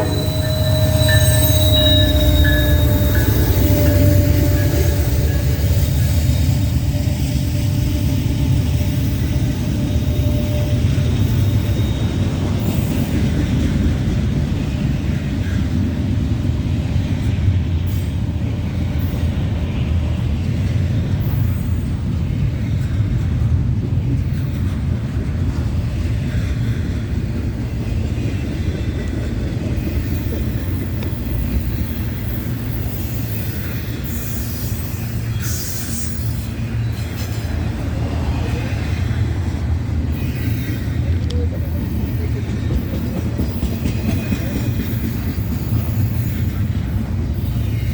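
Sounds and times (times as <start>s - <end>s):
train rumbling on rails: 0.0s - 47.9s.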